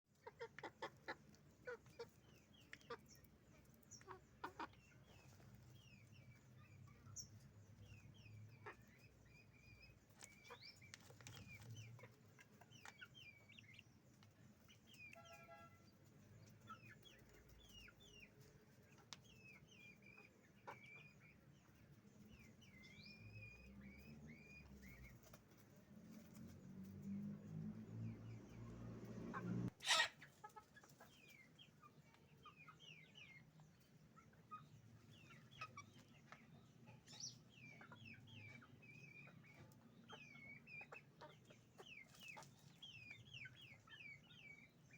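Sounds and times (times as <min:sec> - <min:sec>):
chickens clucking and calling: 0:00.1 - 0:44.9.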